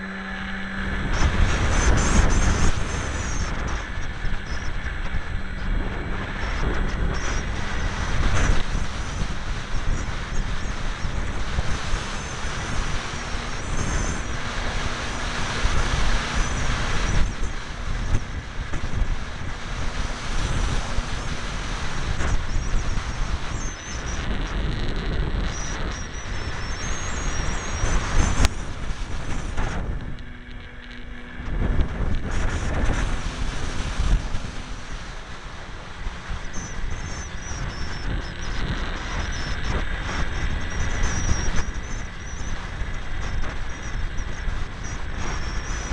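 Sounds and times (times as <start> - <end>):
electric motor and propeller: 0.0 - 45.9
wind buffeting microphone: 0.0 - 45.9.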